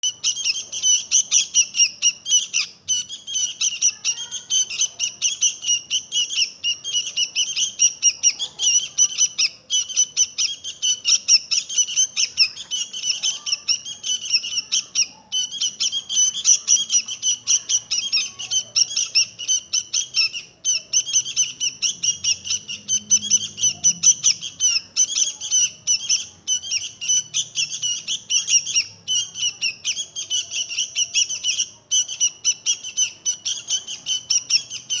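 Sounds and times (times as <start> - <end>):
bird singing chattering notes: 0.1 - 35.0.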